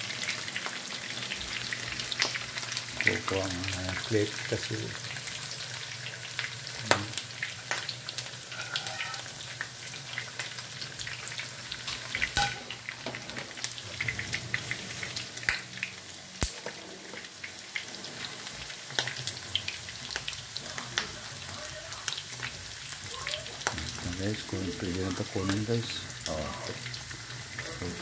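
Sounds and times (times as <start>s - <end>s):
meat sizzling in a skillet: 0.0s - 28.0s.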